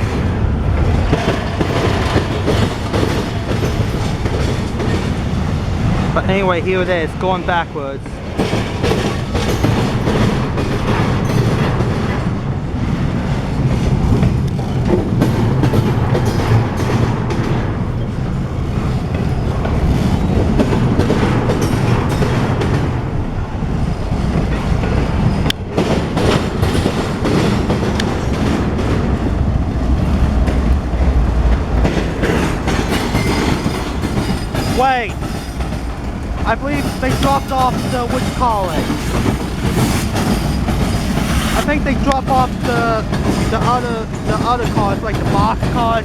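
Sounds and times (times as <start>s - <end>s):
steady train rumble: 0.0s - 46.0s
train wheels clicking over rail joints: 0.0s - 46.0s.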